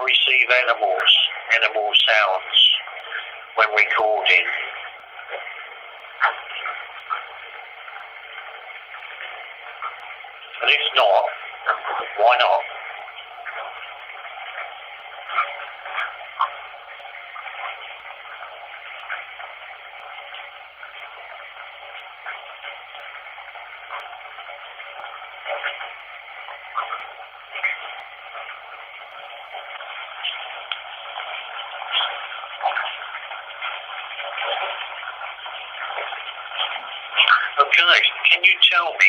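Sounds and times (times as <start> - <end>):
running water rushing: 0.0 - 39.0
crackles and spikes: 0.3 - 39.0.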